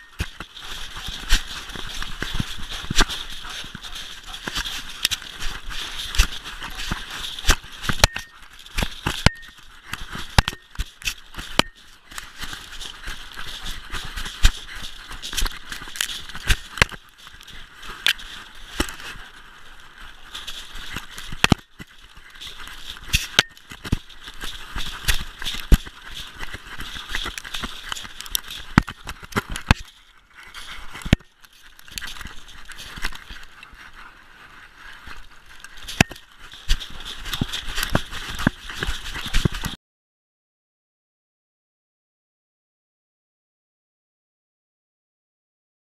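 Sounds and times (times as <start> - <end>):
paws crunching in snow: 0.0 - 39.8.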